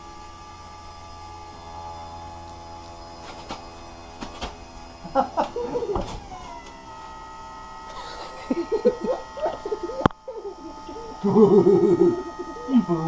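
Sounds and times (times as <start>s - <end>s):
electric trim motor whining: 0.0s - 13.0s.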